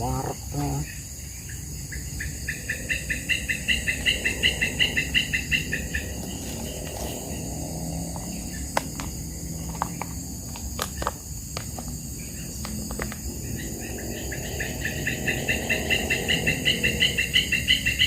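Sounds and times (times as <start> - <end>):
crickets and insects droning: 0.0 - 18.0
pulsed insect call: 0.0 - 18.0.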